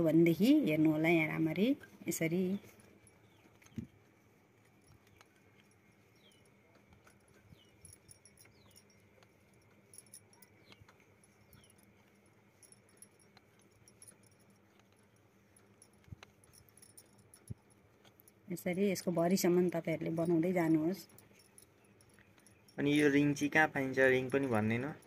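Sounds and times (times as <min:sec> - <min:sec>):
faint ticks and rustles of yarn: 0:00.0 - 0:25.0.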